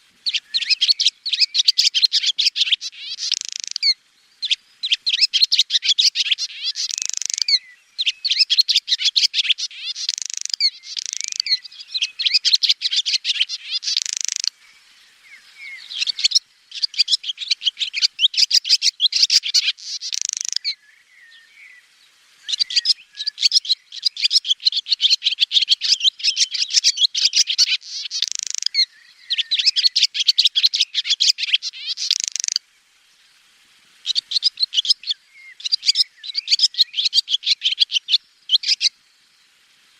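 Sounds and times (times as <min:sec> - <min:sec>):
swallow twittering: 0:00.0 - 0:21.8, 0:22.4 - 0:32.6, 0:34.0 - 0:39.4.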